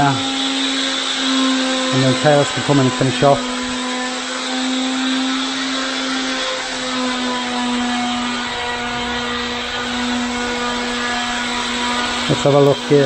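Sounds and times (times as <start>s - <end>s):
power tool motor running: 0.0s - 13.0s.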